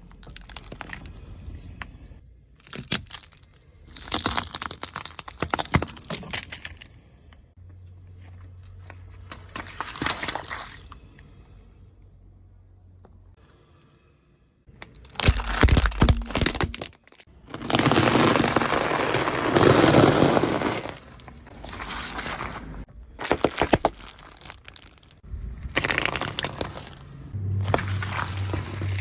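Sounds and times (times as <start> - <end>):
objects crunching under car tyre: 0.0 - 1.2, 2.6 - 7.4, 8.0 - 11.0, 14.8 - 29.0.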